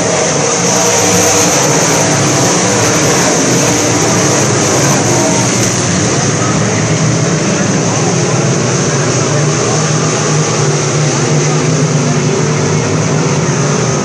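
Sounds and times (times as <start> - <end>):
race cars racing past: 0.0 - 14.0.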